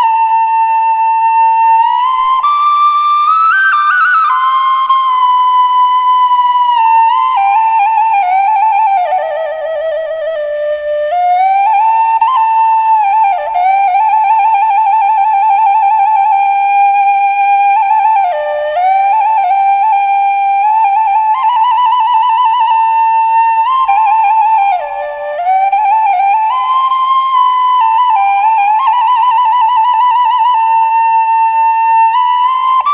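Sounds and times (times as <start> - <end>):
flute-like slow melody: 0.0 - 32.9.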